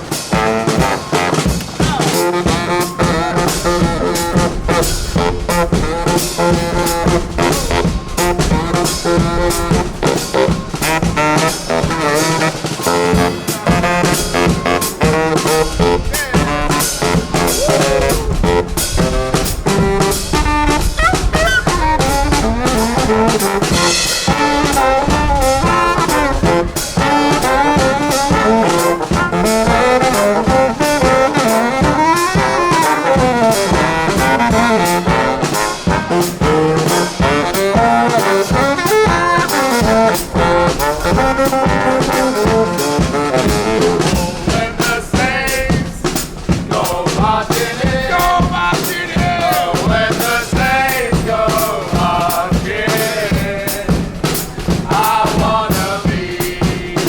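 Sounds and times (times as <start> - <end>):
drum kit: 0.0 - 57.0
trombones and trumpets: 0.0 - 57.0.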